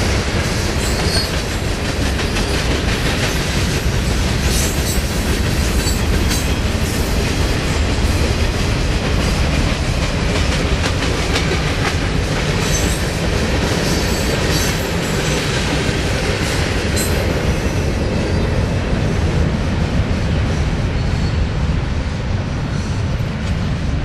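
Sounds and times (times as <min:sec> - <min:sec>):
clickety-clack over rail joints: 0:00.0 - 0:21.4, 0:22.5 - 0:24.0
freight train wheels rumbling: 0:00.0 - 0:24.0.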